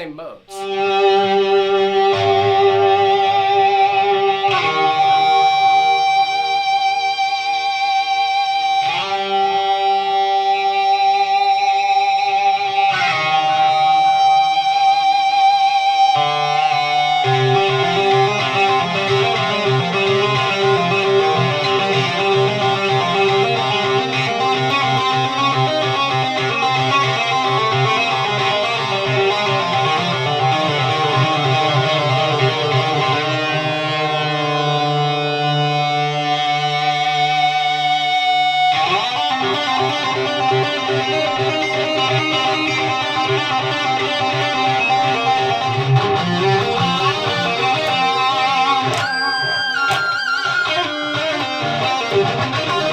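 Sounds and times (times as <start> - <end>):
distorted electric guitar lead: 0.0 - 52.9.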